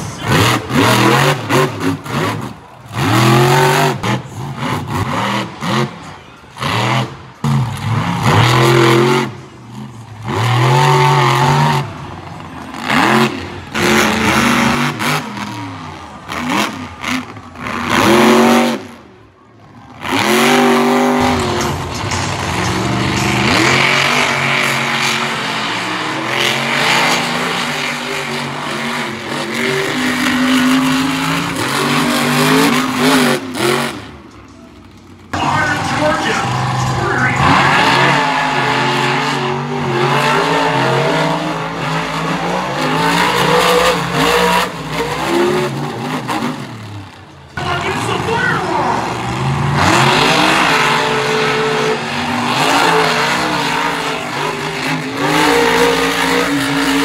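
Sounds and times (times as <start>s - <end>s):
monster truck engines revving: 0.0s - 57.0s.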